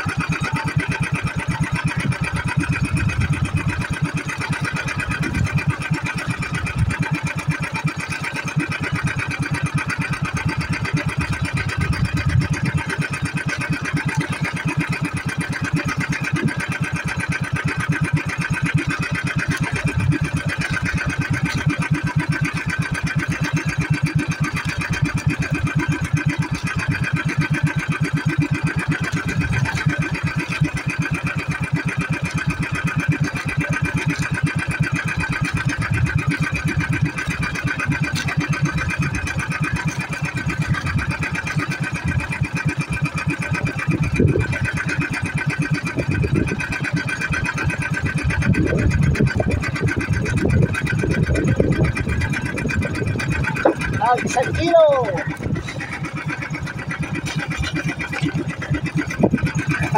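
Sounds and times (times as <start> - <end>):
small boat engine chugging: 0.0 - 59.9.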